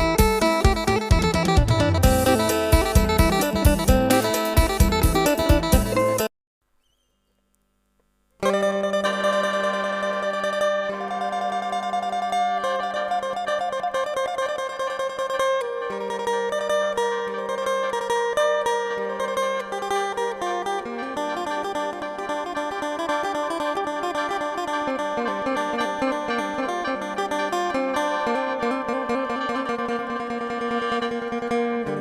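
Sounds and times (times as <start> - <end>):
plucked lute melody: 0.0 - 6.3, 8.4 - 32.0.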